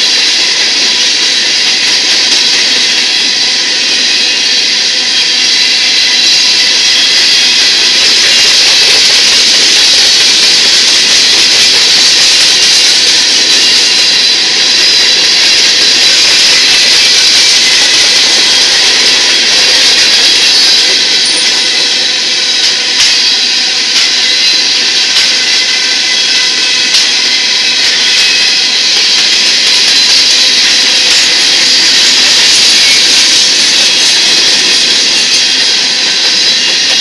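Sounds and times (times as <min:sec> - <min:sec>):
freight train wheels rolling: 0:00.0 - 0:37.0.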